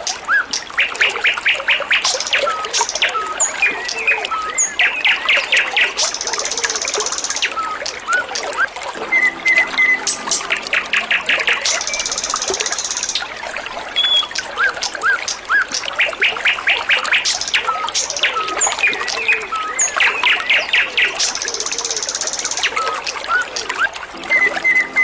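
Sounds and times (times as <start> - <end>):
songbirds chirping: 0.0 - 25.0
water trickling: 0.0 - 25.0
bird trills: 0.4 - 23.0, 24.2 - 25.0.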